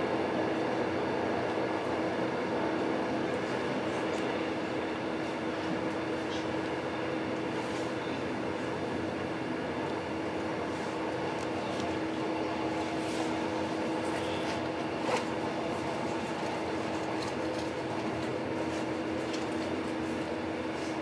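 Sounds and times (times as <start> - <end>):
constant hum: 0.0 - 21.0
train wheels rumbling on rail: 0.0 - 21.0.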